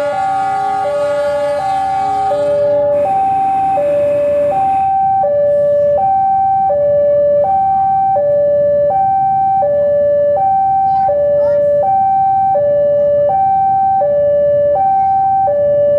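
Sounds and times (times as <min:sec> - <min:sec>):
level-crossing two-tone alarm: 0:00.0 - 0:15.9.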